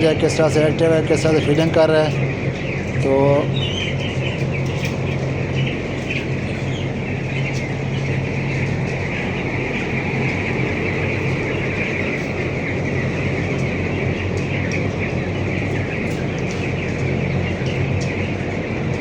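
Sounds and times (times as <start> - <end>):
chicks cheeping: 0.0 - 19.0
ventilation fan humming: 0.0 - 19.0.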